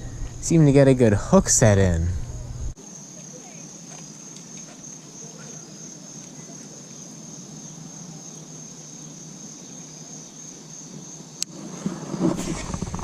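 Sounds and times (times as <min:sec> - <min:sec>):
insects chorus: 0:00.0 - 0:13.0
low outdoor hiss: 0:00.0 - 0:13.0.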